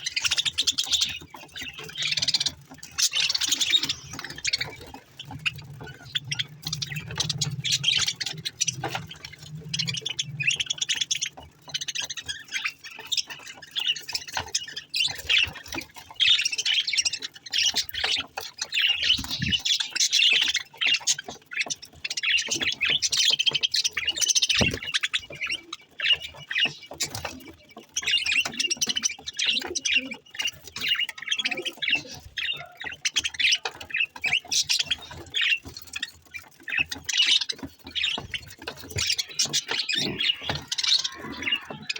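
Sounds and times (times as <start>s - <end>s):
budgerigars chattering and warbling: 0.0s - 41.9s.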